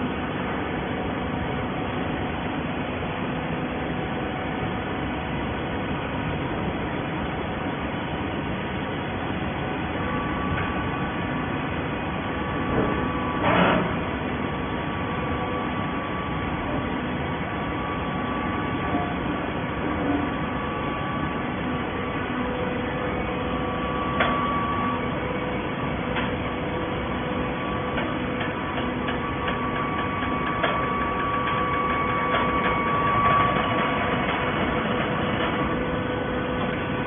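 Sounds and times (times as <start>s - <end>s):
machine mechanical hum: 0.0s - 37.0s.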